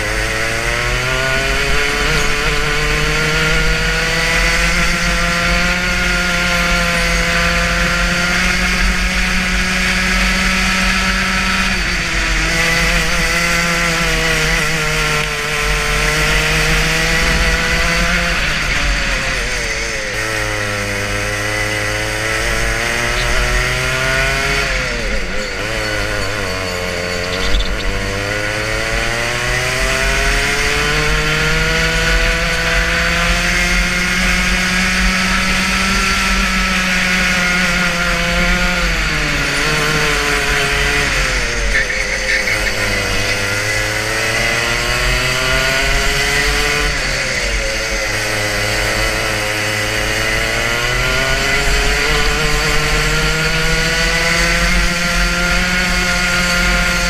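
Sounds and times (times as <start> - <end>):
kart engine revving at full throttle: 0.0 - 57.0.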